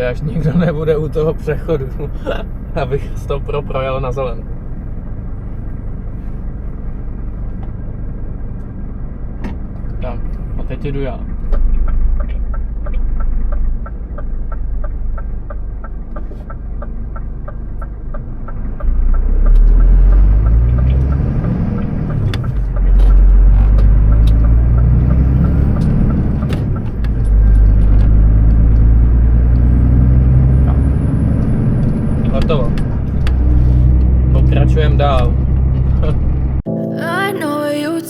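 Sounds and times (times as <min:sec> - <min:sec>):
truck diesel engine: 0:00.0 - 0:36.8.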